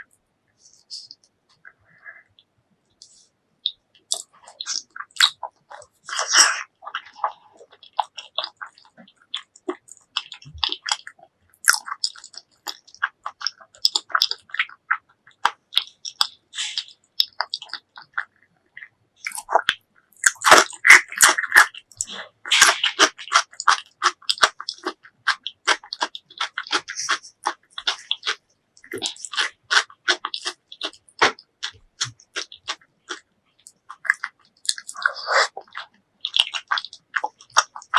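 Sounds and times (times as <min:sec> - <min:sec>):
person chewing: 0:03.0 - 0:37.9.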